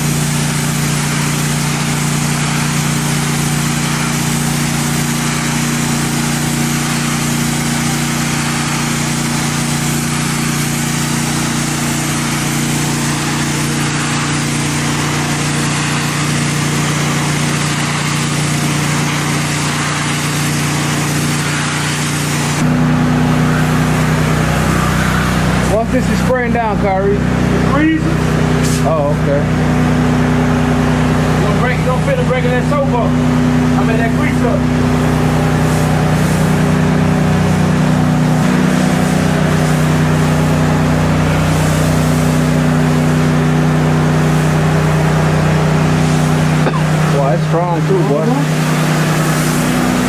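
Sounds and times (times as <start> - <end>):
gas engine running: 0.0 - 50.0
high-pressure water spraying: 0.0 - 50.0.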